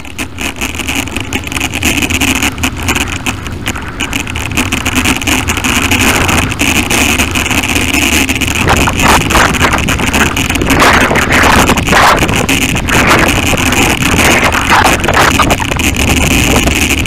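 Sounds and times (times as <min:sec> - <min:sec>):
bicycle rushing over rough trail: 0:00.0 - 0:17.0
bike clattering and knocking: 0:00.0 - 0:17.0.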